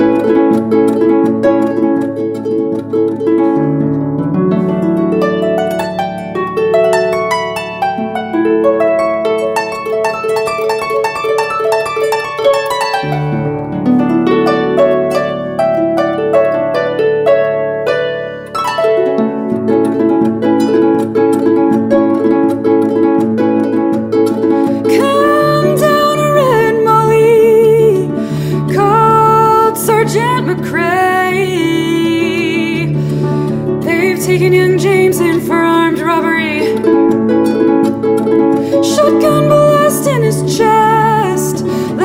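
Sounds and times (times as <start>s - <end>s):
harp playing: 0.0s - 42.0s.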